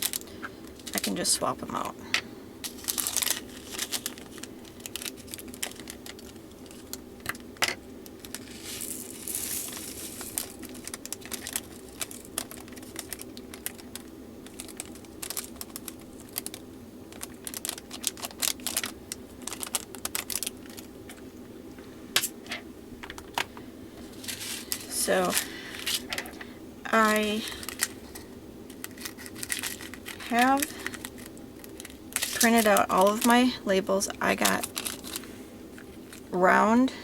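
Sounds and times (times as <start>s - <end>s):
plastic bag crinkling: 0.0s - 1.4s, 2.6s - 21.2s, 24.0s - 36.4s
steady low hum: 0.0s - 37.0s.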